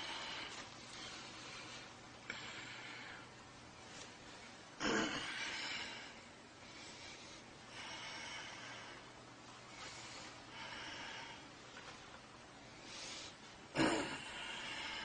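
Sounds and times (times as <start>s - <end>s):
man breathing hard: 0.0s - 3.3s, 4.8s - 11.6s, 12.8s - 15.0s.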